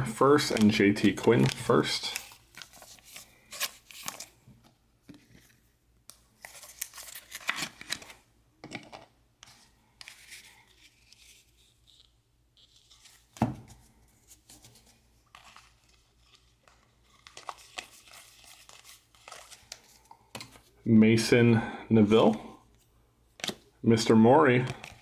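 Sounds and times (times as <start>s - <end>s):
cards rustling: 0.0s - 20.8s, 22.2s - 25.0s.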